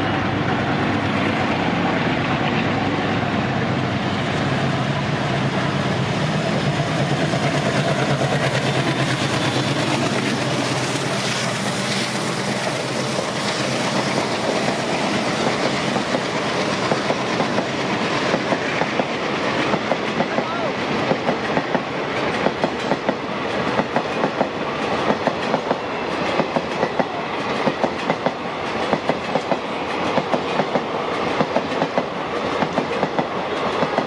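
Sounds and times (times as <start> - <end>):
diesel locomotives chugging: 0.0 - 34.0
wheels clacking over rail joints: 6.6 - 34.0.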